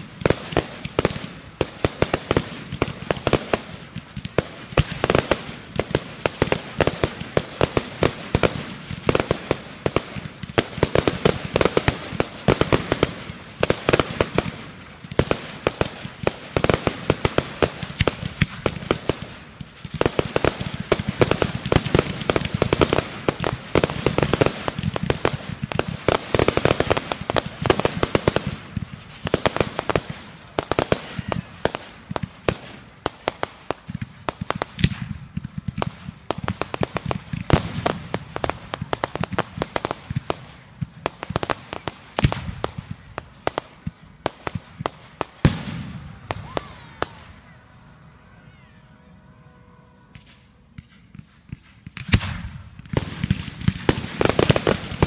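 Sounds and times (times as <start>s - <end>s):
fireworks bangs and crackling pops: 0.0s - 47.6s, 50.1s - 55.0s.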